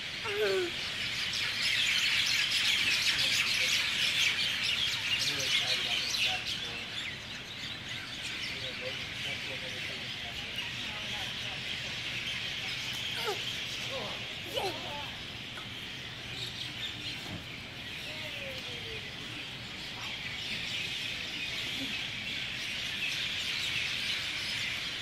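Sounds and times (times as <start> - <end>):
chorus of birds chirping: 0.0 - 25.0.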